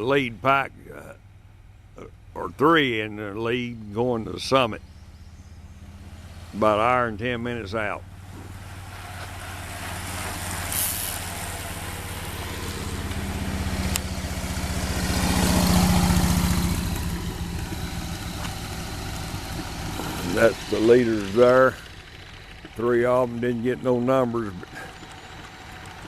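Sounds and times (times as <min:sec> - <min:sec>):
road noise of passing vehicle: 0:00.0 - 0:26.0
vehicle engine humming: 0:00.0 - 0:26.0.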